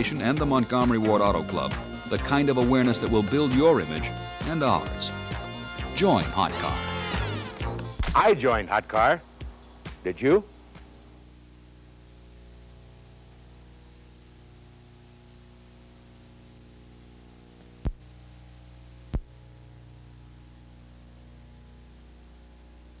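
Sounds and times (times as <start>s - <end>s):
electrical mains hum with hiss: 0.0s - 23.0s.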